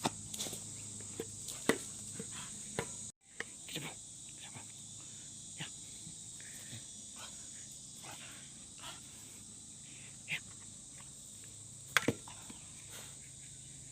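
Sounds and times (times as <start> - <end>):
insects chirring: 0.0 - 13.9.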